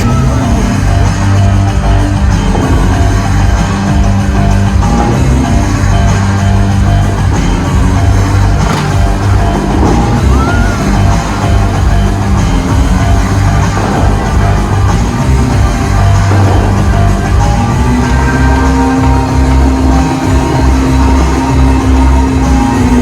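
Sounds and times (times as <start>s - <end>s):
loud bass-heavy music: 0.0s - 23.0s.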